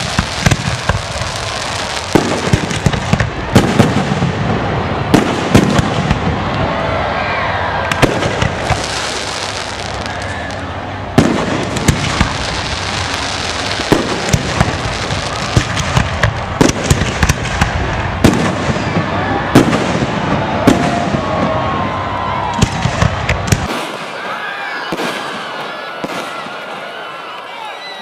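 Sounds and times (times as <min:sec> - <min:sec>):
fireworks crackling pops: 0:00.0 - 0:04.4, 0:05.1 - 0:06.6, 0:07.8 - 0:21.7, 0:22.4 - 0:26.7
fireworks bangs: 0:00.0 - 0:27.0.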